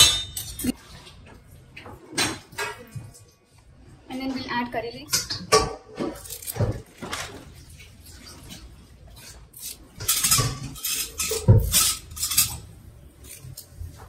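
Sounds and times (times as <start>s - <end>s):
dishes and utensils clinking: 0.0s - 3.5s, 5.1s - 13.7s.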